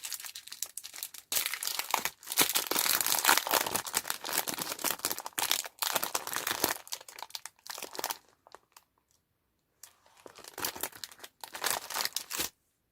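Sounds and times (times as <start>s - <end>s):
candy wrappers crinkling: 0.0s - 9.1s, 10.1s - 12.5s.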